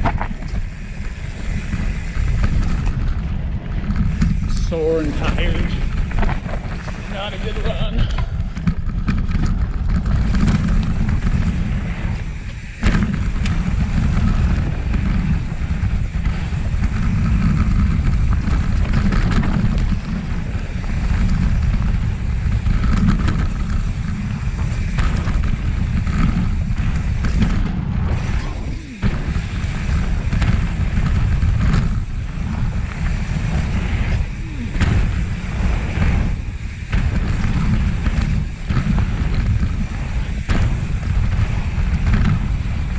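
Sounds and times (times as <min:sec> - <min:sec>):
bike clicks and rattles: 0:00.0 - 0:42.9
tyres on dirt trail: 0:00.0 - 0:42.9
wind buffeting microphone: 0:00.0 - 0:42.9.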